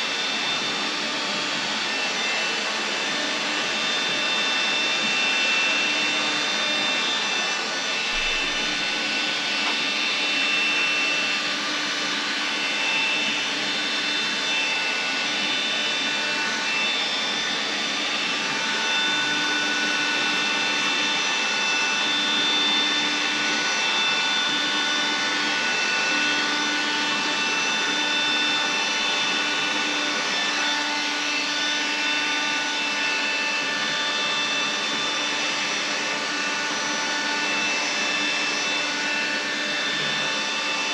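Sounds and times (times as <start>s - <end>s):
handheld vacuum cleaner whining: 0.0s - 40.9s.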